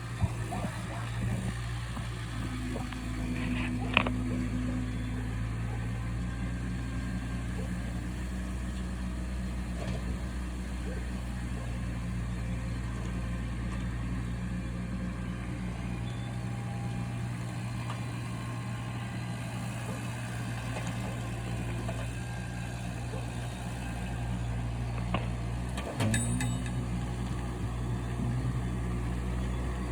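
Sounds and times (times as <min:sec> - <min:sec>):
distant engine idling: 0:00.0 - 0:29.9.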